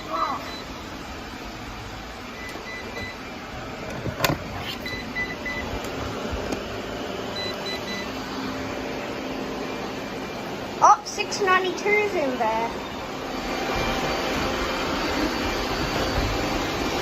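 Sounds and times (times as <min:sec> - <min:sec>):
robot vacuums whirring: 0:00.4 - 0:17.0.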